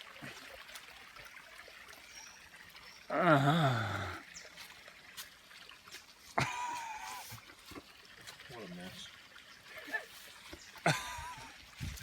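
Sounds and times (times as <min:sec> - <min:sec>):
stream water trickling: 0:00.0 - 0:12.0.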